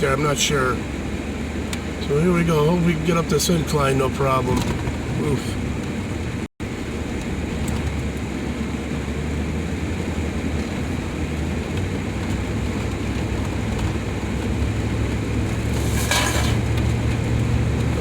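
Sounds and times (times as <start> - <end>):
road noise inside cab: 0.0 - 18.0
van engine low rumble: 0.0 - 18.0.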